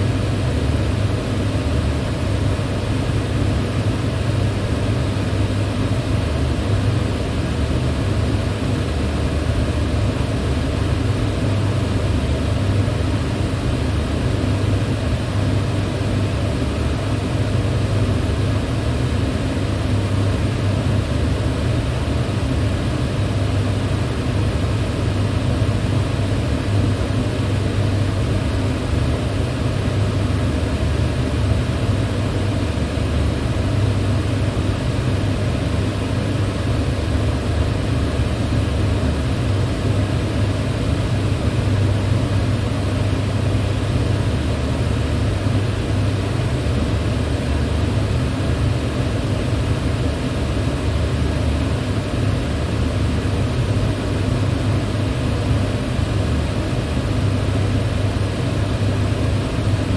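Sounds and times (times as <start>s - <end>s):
electric fan running: 0.0s - 59.9s.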